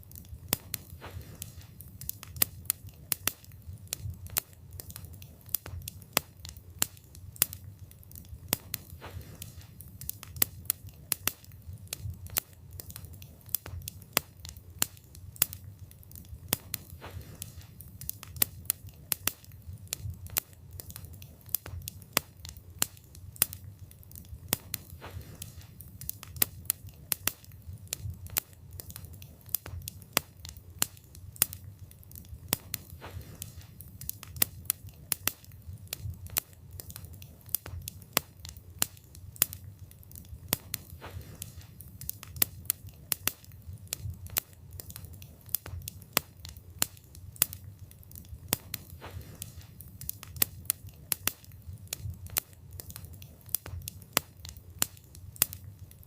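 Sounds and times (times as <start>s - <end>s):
campfire wood crackling and popping: 0.0s - 56.0s
low rumble of flames: 0.0s - 56.0s.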